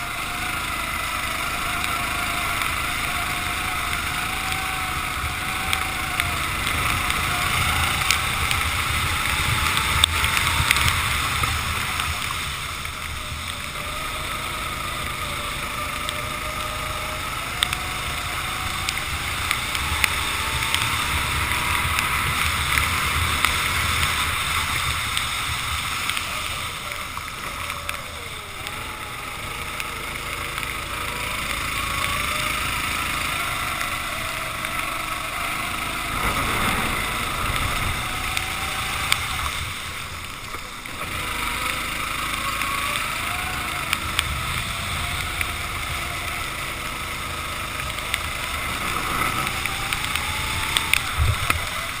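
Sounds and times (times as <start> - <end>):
hiss of wind and spray: 0.0 - 52.0
kart engine revving: 0.0 - 52.0.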